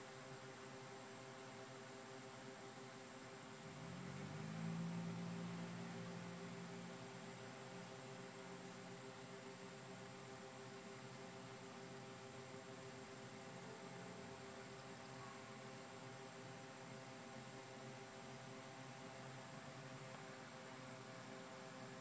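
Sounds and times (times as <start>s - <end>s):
faint steady hum and hiss: 0.0s - 22.0s.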